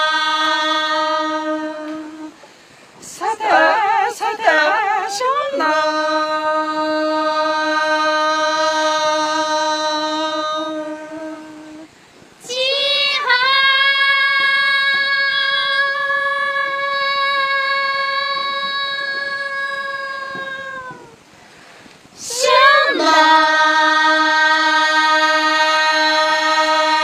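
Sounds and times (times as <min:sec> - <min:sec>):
high singing voice holding notes: 0:00.0 - 0:02.4, 0:03.0 - 0:21.2, 0:22.2 - 0:27.0.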